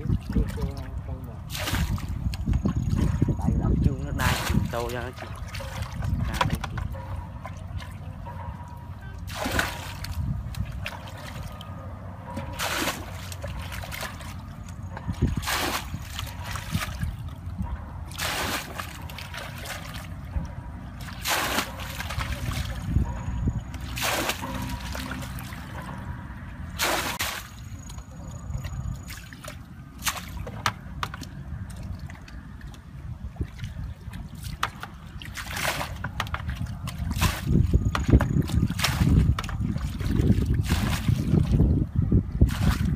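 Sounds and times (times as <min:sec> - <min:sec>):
water splashing onto ground: 0:00.0 - 0:03.2, 0:03.8 - 0:06.9, 0:09.2 - 0:11.7, 0:12.4 - 0:17.5, 0:18.1 - 0:23.1, 0:23.7 - 0:41.8, 0:42.4 - 0:42.9.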